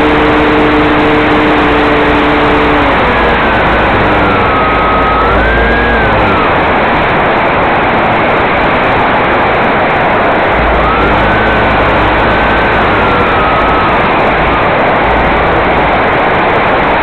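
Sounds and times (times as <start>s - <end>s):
model plane motor whine: 0.0s - 7.6s, 10.3s - 17.0s
loud steady rushing noise: 0.0s - 17.0s.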